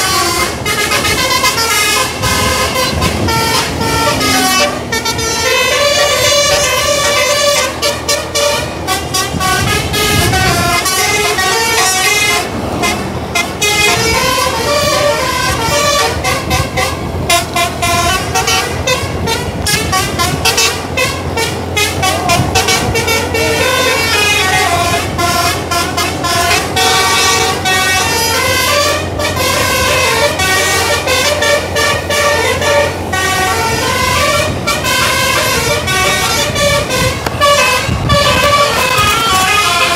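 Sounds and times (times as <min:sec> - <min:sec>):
low engine hum: 0:00.0 - 0:39.9
multi-tone air horn melody: 0:00.0 - 0:39.9.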